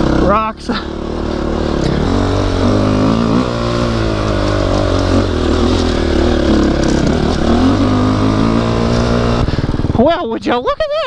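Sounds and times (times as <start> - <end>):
dirt bike engine pulling uphill: 0.0 - 11.0.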